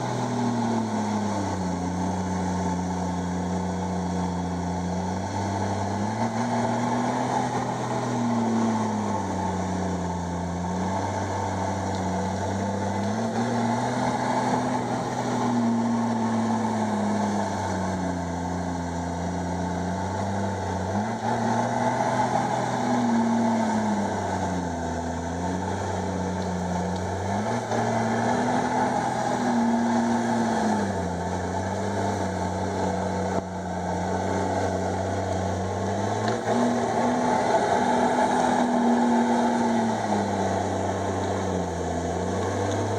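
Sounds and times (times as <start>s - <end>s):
bulldozer diesel engine revving: 0.0s - 42.9s.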